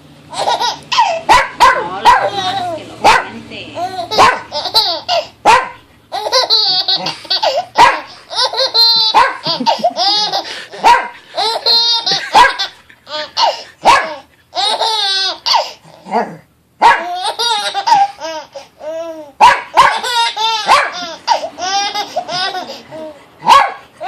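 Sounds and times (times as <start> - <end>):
baby laughing: 0.3 - 2.8, 3.8 - 5.4, 6.1 - 16.0, 17.0 - 23.3.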